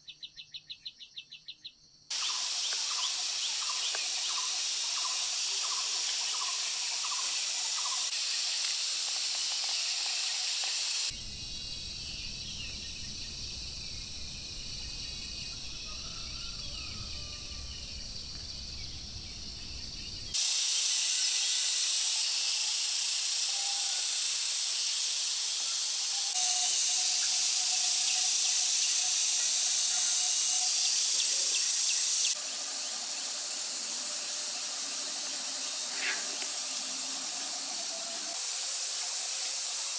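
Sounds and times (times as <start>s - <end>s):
high-pitched outdoor hiss: 0.0s - 39.9s.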